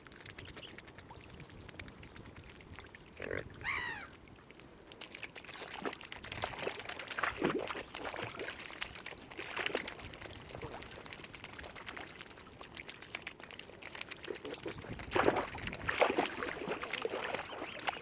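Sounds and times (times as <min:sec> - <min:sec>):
water splashing and lapping: 0:00.0 - 0:18.0.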